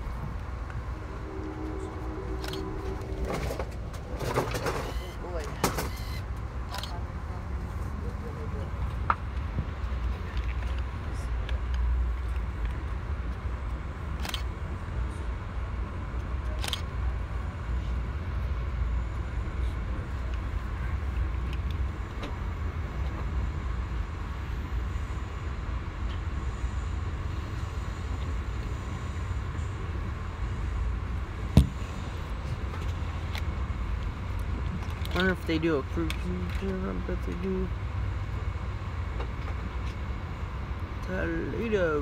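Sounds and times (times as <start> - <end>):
train interior rumble: 0.0 - 42.0.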